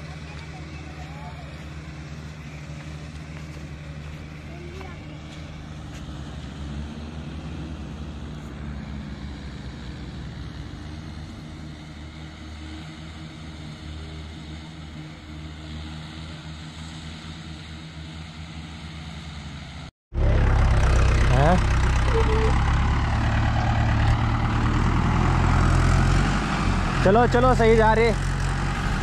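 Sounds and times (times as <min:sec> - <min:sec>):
distant tractor engine drone: 0:00.0 - 0:29.0
loud close tractor engine: 0:00.0 - 0:29.0.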